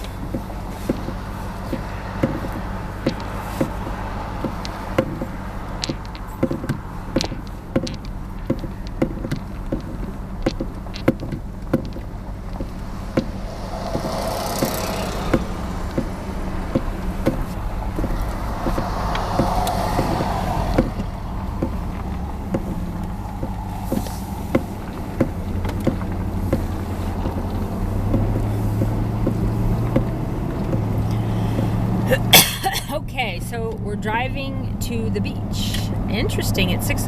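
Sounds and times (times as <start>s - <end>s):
small clicks and ticks: 0.0s - 31.9s
car engine and road drone: 0.0s - 37.0s.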